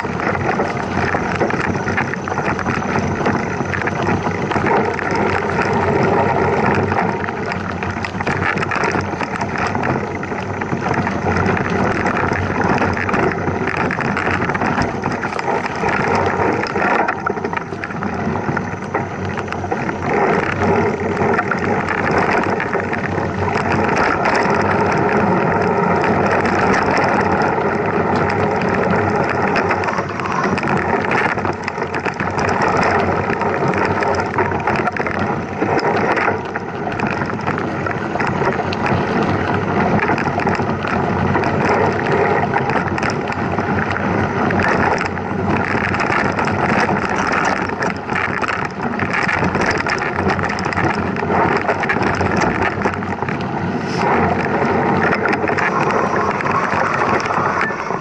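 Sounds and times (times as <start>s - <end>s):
bike tyres rattling on trail: 0.0s - 58.0s
wind buffeting microphone: 0.0s - 58.0s.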